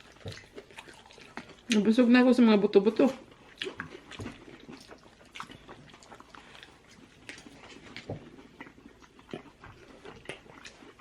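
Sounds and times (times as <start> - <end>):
light chewing: 0.0 - 2.1, 2.9 - 11.0.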